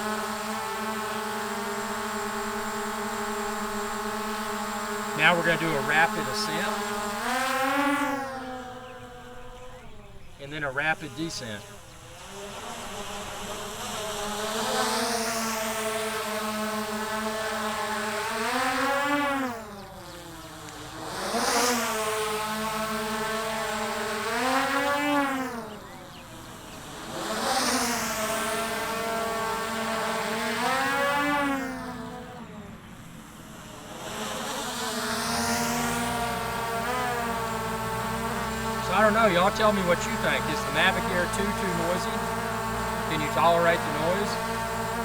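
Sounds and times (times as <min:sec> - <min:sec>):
drone propellers buzzing: 0:00.0 - 0:45.0.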